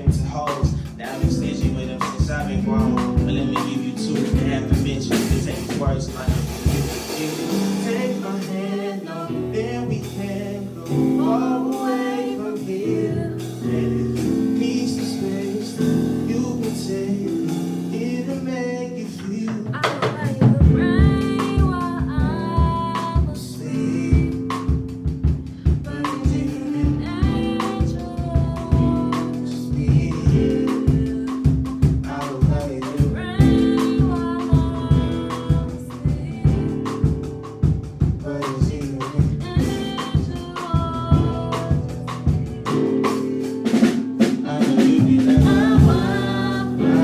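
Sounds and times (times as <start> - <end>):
drum kit beat: 0.0 - 47.0
keyboard chords: 0.0 - 47.0
person singing: 0.0 - 47.0.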